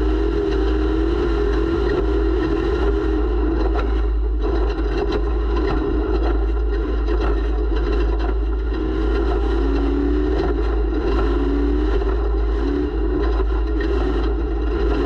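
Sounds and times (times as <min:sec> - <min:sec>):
race vehicle engine revving high: 0:00.0 - 0:15.0.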